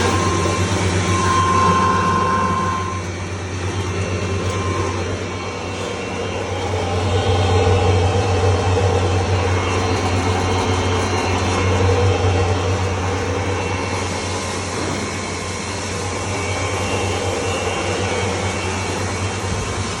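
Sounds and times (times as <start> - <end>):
grinding machine whirring: 0.0 - 20.0.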